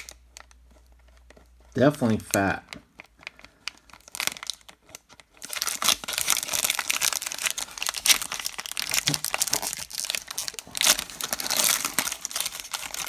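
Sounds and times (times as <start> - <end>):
wrapper crinkling and tearing: 0.0 - 13.0.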